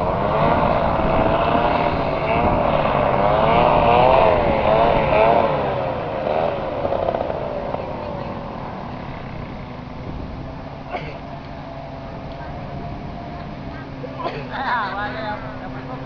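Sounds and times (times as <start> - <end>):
wind buffeting microphone: 0.0 - 16.0
wind whistling howl: 0.0 - 16.0.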